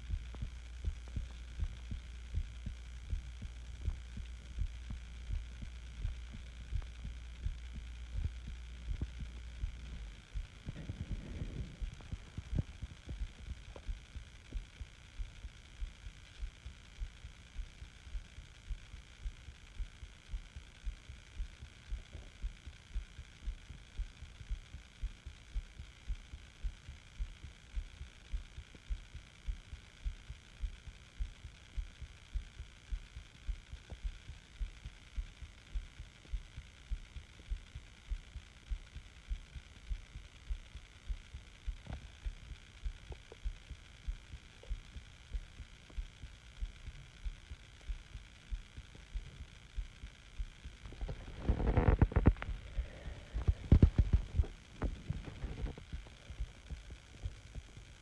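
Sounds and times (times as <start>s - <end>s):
faint steady hiss: 0.0s - 58.0s
heartbeat pulsing: 0.0s - 58.0s.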